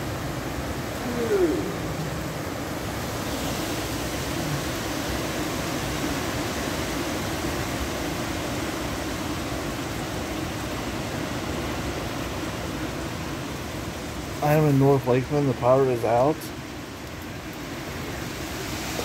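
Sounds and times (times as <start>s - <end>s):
hurricane wind and rain: 0.0s - 19.0s.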